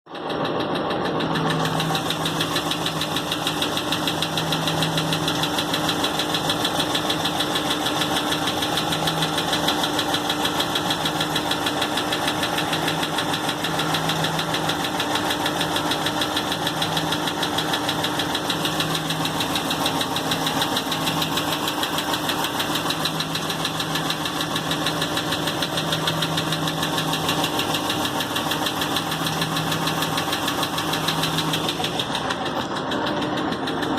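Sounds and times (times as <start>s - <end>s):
car engine running: 0.1s - 33.9s
engine ticking knock: 0.1s - 33.9s.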